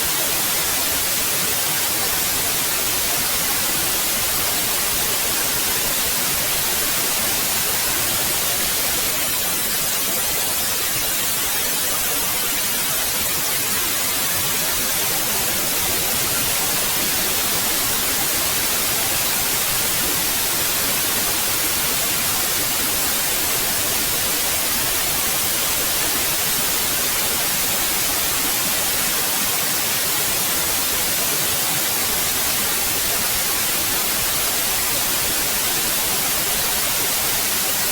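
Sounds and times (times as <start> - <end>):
white noise hiss: 0.0 - 37.9.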